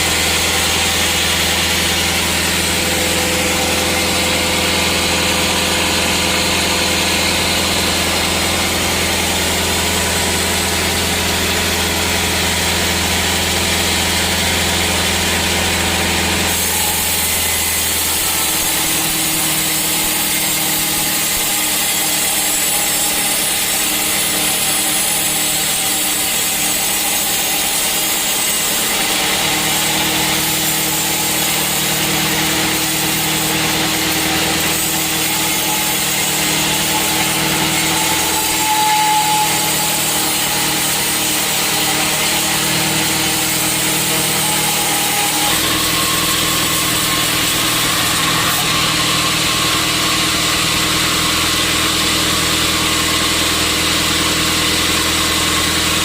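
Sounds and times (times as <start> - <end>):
saw blade cutting wood: 0.0 - 56.0
sawmill saw humming: 0.0 - 56.0.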